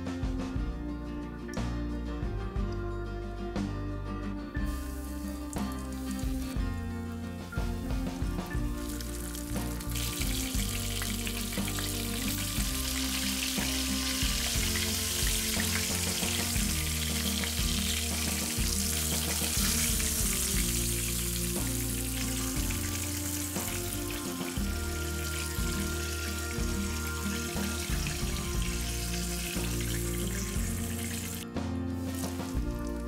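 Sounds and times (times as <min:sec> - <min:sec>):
soft background music: 0:00.0 - 0:33.0
chicken sizzling in hot oil: 0:04.6 - 0:33.0.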